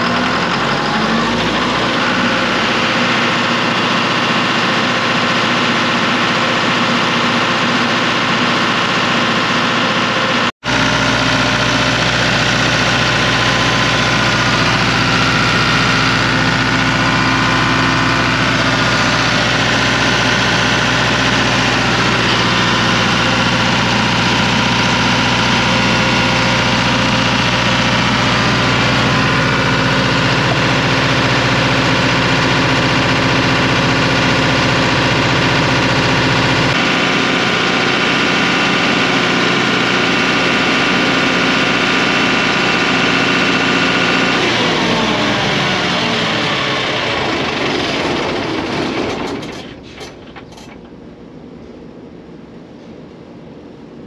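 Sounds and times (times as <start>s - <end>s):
diesel generator running: 0.0s - 54.0s.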